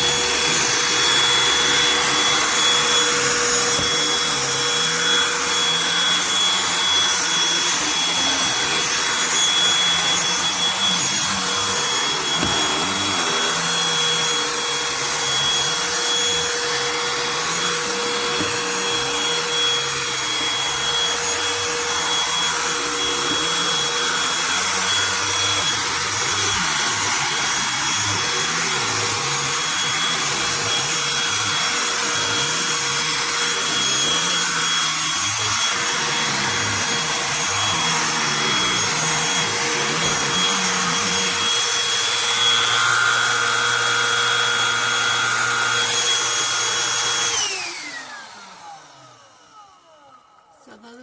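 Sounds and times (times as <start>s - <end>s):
handheld vacuum motor whine: 0.0s - 51.0s.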